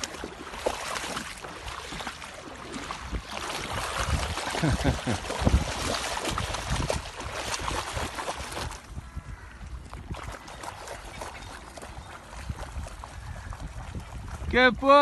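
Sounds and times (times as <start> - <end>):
rippling lake water: 0.0 - 15.0
wind rumbling on microphone: 0.0 - 15.0.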